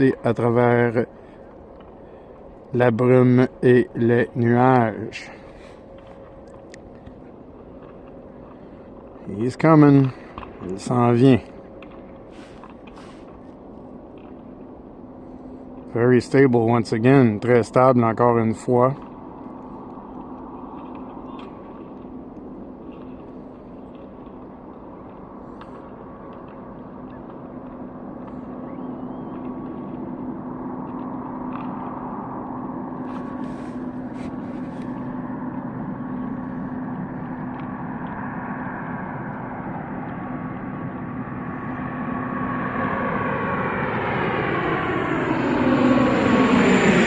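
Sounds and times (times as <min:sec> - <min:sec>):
propeller airliner engine drone: 0:00.0 - 0:47.0.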